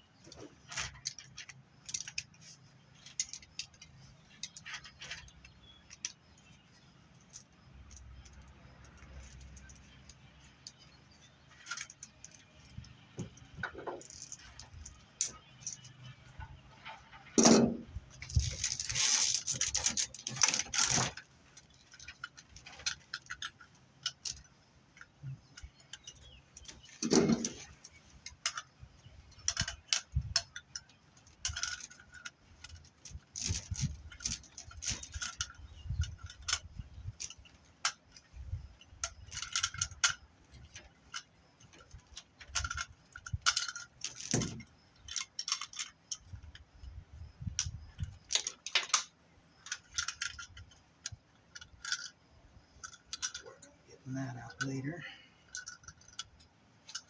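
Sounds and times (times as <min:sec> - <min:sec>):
metal cable clinking and rattling: 0:00.2 - 0:57.0.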